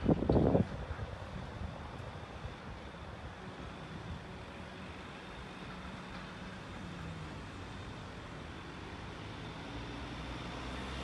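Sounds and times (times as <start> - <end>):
van engine running slowly: 0.0 - 11.0.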